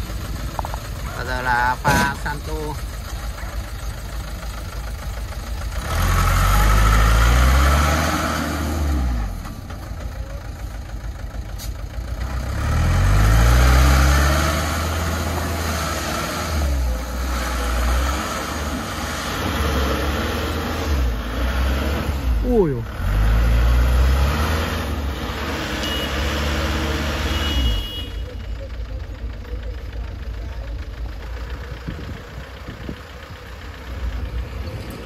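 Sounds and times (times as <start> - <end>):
diesel truck engine revving: 0.0 - 35.0.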